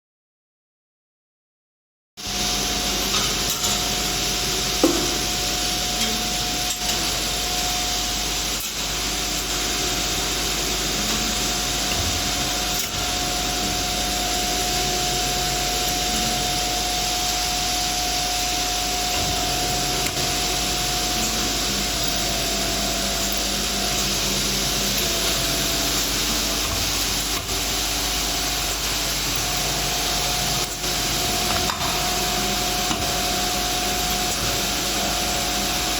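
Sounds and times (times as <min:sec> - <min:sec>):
wire bending machine running: 0:02.2 - 0:35.9.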